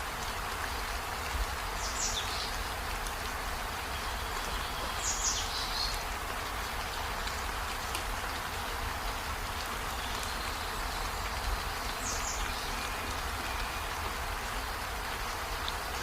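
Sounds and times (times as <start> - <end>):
rain-like hiss: 0.0 - 16.0.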